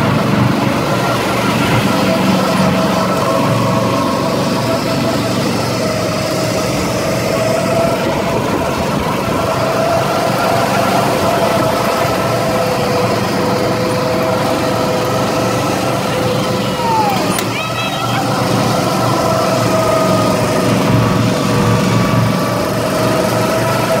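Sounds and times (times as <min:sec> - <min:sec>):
go-kart engines running: 0:00.0 - 0:24.0.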